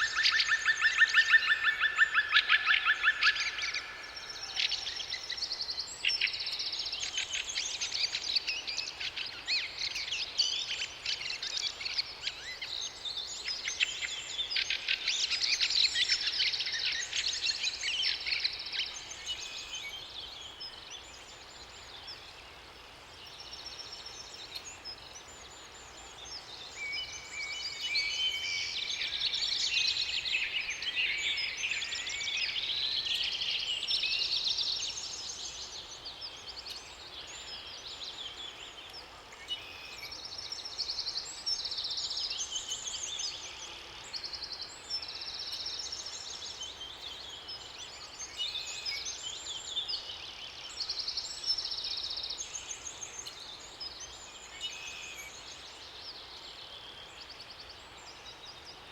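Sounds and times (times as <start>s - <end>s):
songbirds chirping and trilling: 0.0s - 58.9s.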